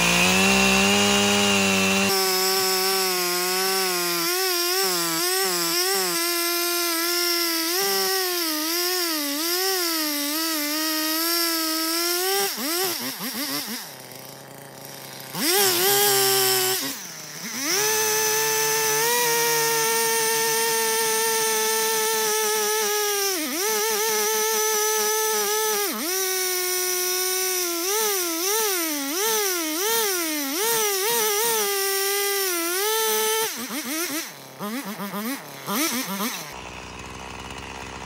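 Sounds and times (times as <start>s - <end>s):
chainsaw cutting log: 0.0s - 38.0s.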